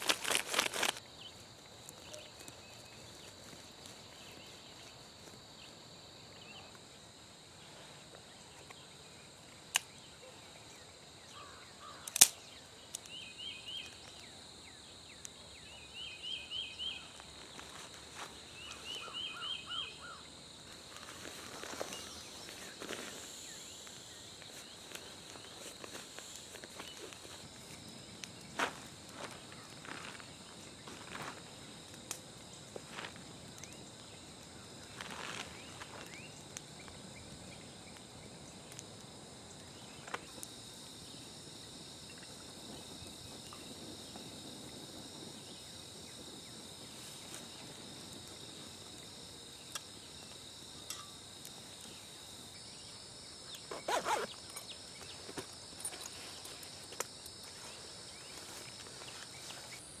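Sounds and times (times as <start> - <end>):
high-pitched insect chorus: 0.0 - 60.0.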